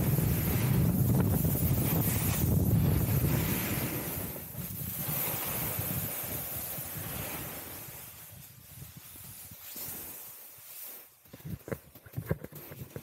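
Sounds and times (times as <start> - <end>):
wind noise on microphone: 0.0 - 10.2, 11.3 - 13.0
snowboard scraping over snow: 0.0 - 13.0.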